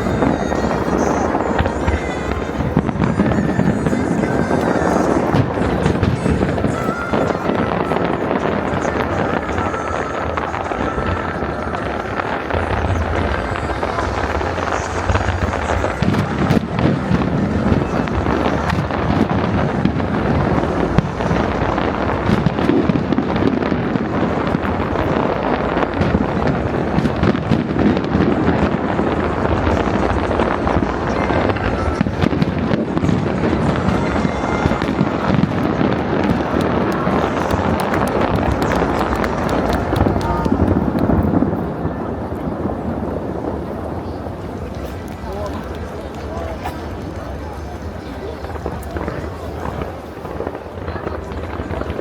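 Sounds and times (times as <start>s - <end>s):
sharp firework bangs: 0.0s - 45.9s
fireworks crackling and rumbling: 0.0s - 52.0s.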